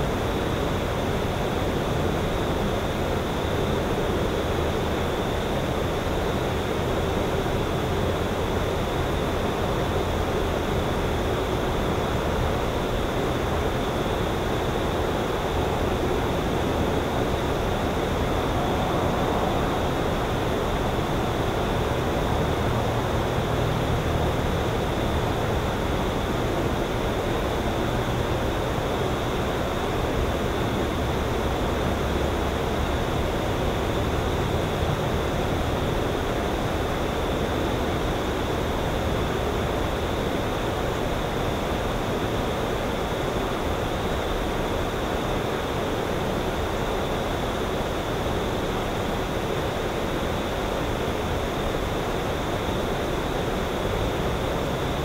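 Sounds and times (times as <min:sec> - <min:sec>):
steady outdoor hiss: 0:00.0 - 0:55.0.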